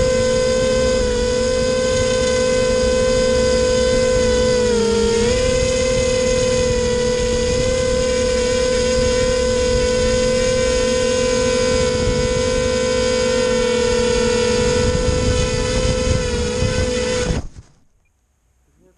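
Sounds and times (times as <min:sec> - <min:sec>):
quadcopter motors whining: 0:00.0 - 0:17.7.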